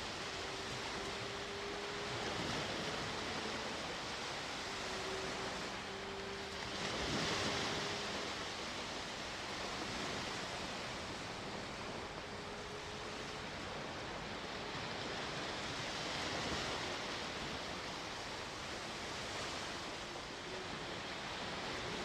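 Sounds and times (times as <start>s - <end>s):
sea waves washing ashore: 0.0s - 22.0s.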